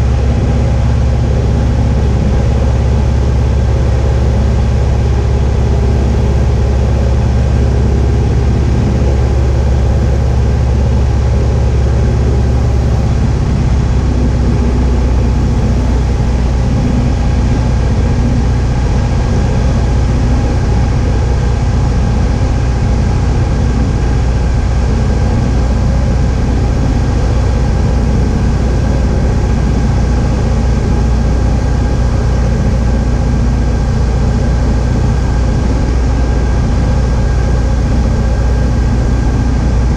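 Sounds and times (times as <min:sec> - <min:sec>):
plane piston engine and propeller: 0:00.0 - 0:39.9.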